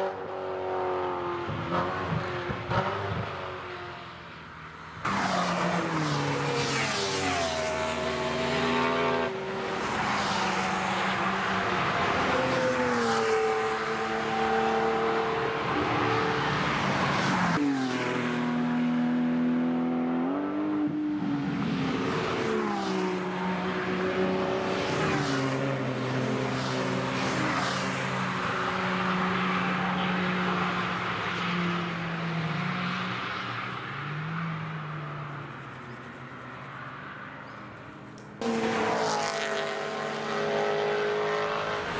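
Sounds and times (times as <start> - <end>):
sports cars revving past: 0.0 - 4.1, 4.9 - 37.6, 38.3 - 41.9.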